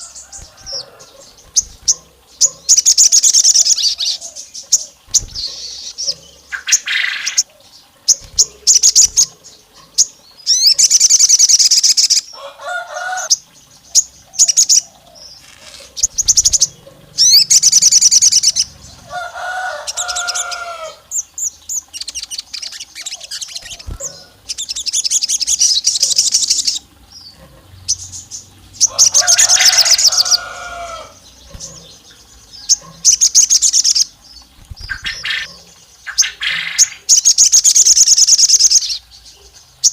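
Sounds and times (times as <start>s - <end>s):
bird chips: 0.0s - 7.5s, 8.1s - 27.2s, 32.7s - 39.0s
songbird trilling: 0.0s - 39.9s.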